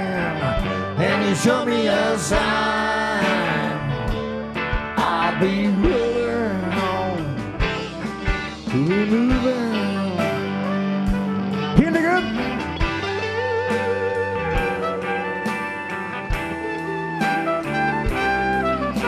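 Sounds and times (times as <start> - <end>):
bending lead guitar line: 0.0 - 19.0
rock band playing live: 0.0 - 19.0.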